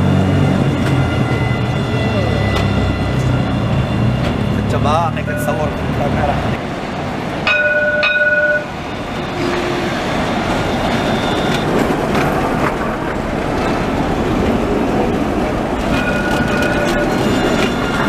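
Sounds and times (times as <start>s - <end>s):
tram wheels on rails: 0.0s - 18.0s.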